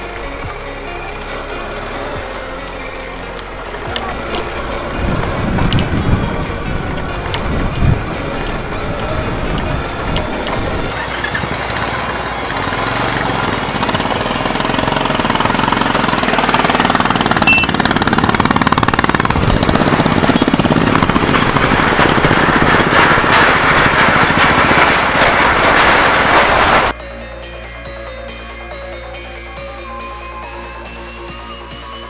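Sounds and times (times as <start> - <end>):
motorcycle engines running: 0.0 - 32.0.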